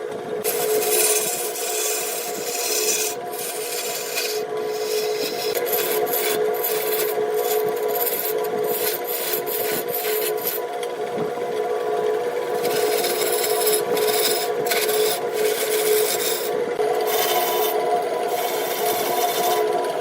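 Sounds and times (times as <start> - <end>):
wood lathe humming: 0.0 - 20.0
tool scraping spinning wood: 0.4 - 20.0.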